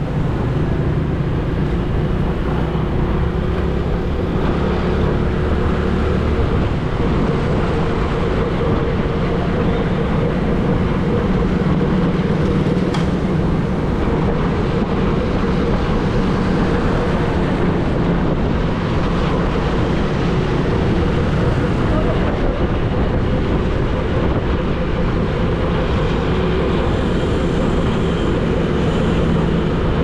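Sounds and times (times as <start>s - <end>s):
loud rushing noise: 0.0s - 30.0s
vehicle engine running: 0.0s - 30.0s.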